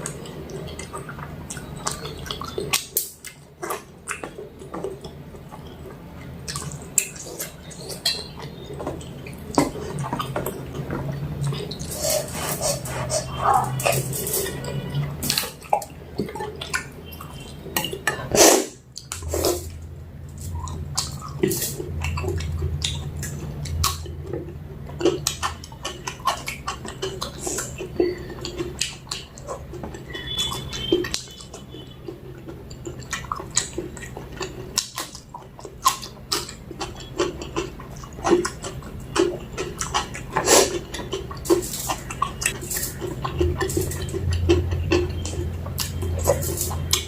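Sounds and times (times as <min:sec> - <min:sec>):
chewing and mouth smacks: 0:00.0 - 0:47.0.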